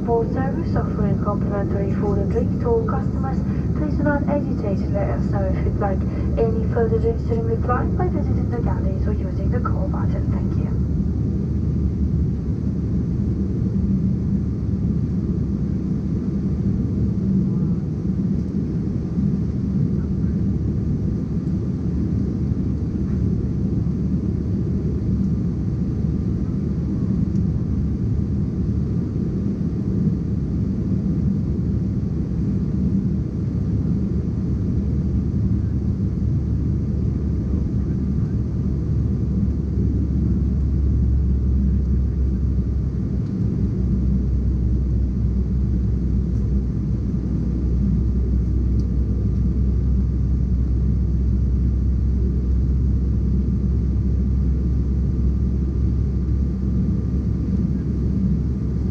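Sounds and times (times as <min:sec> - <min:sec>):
faint steady whine: 0:00.0 - 0:58.9
jet engine drone in cabin: 0:00.0 - 0:58.9.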